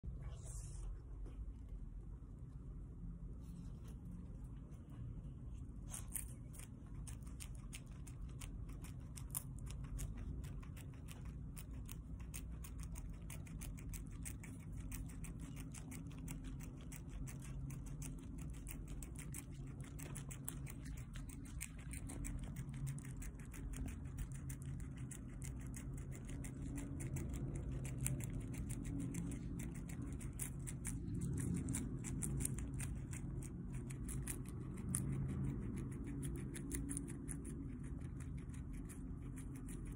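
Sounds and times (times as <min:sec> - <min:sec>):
low rumble: 0:00.0 - 0:39.9
guinea pig chewing crunches: 0:03.4 - 0:39.9.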